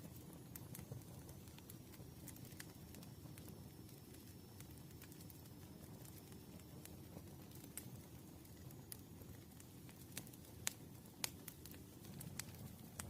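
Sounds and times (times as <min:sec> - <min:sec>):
campfire crackles and pops: 0:00.0 - 0:13.0
low fire rumble: 0:00.0 - 0:13.0.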